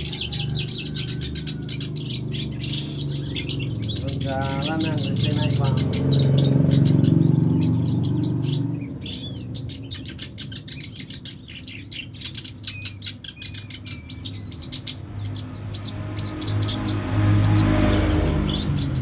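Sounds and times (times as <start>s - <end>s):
songbird chirping and whistling: 0.0s - 19.0s.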